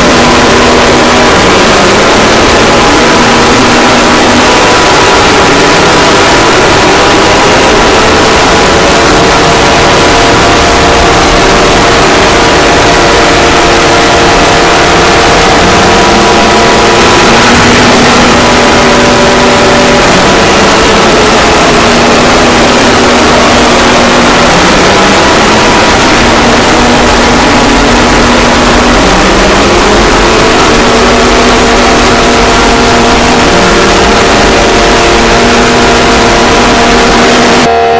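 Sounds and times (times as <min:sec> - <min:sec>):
distorted emergency alert alarm: 0:00.0 - 0:37.9.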